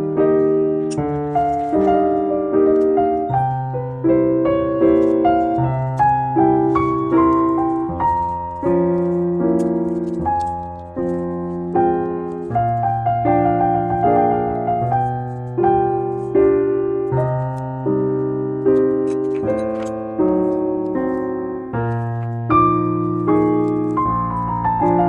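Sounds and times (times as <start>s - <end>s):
piano melody over chords: 0.0s - 25.0s.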